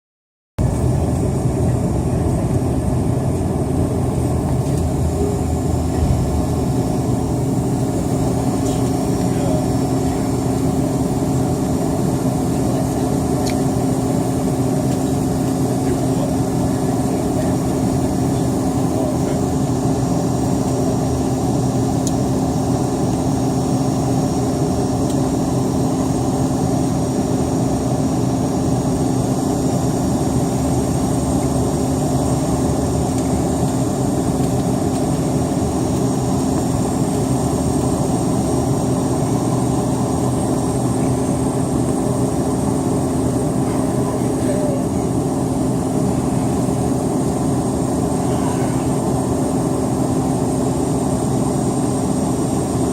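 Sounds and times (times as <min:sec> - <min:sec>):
airplane engines humming: 0:00.6 - 0:52.9.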